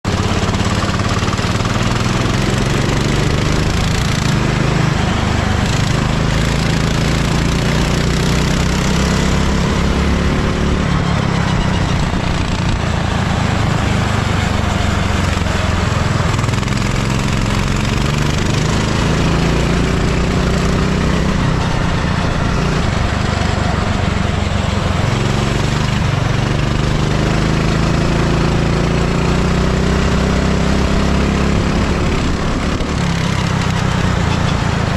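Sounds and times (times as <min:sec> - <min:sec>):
constant noisy rush: 0:00.0 - 0:34.9
kart engine revving: 0:00.1 - 0:34.9.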